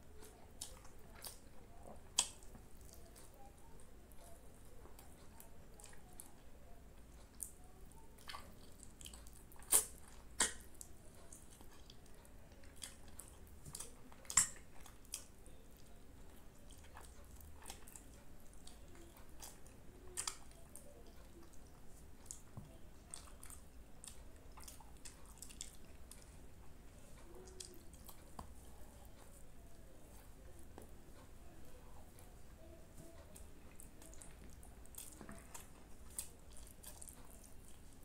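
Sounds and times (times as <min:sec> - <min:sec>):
person chewing with wet mouth sounds: 0:00.0 - 0:38.0.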